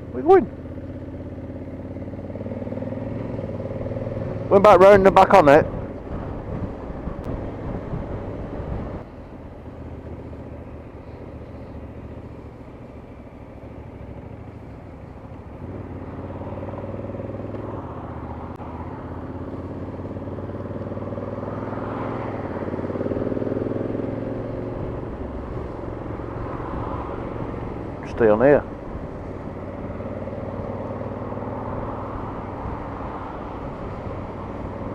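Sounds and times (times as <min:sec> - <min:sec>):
motorcycle engine running: 0:00.0 - 0:34.9
road and wind noise: 0:00.0 - 0:34.9.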